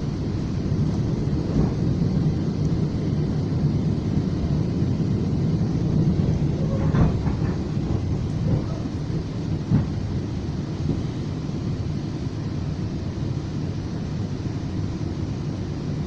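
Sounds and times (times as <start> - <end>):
train rumbling along the track: 0.0 - 16.0.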